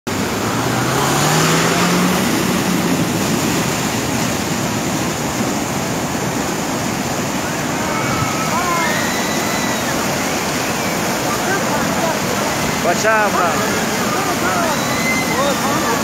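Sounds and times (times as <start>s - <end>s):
floodwater rushing: 0.1s - 16.0s.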